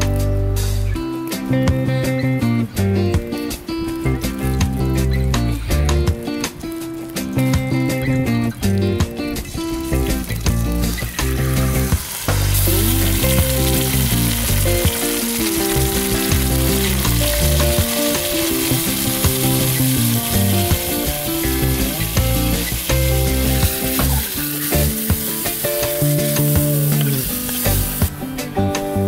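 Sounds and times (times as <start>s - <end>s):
background music with bass: 0.0s - 29.0s
chicken sizzling in oil: 0.0s - 29.0s.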